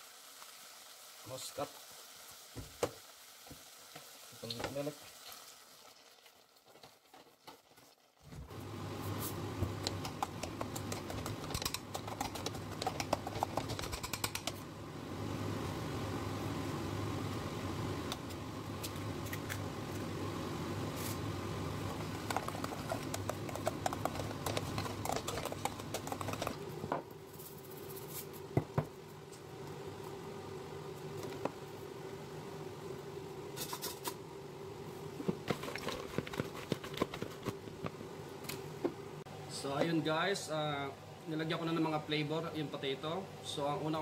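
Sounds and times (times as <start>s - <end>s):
steady hum: 8.5s - 44.0s.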